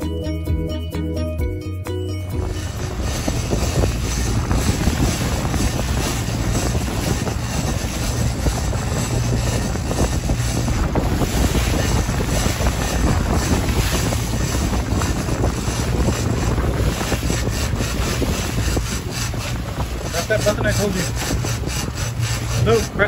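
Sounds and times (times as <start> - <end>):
boat wake rushing: 2.2 - 23.0
outboard motor running: 2.2 - 23.0
wind buffeting microphone: 2.3 - 23.0.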